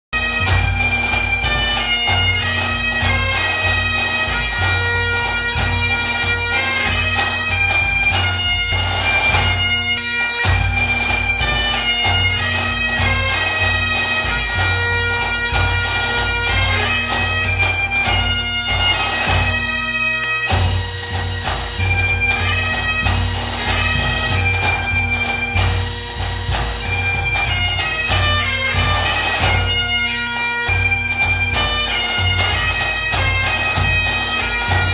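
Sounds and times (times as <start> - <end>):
bagpipes playing a melody: 0.2 - 34.9.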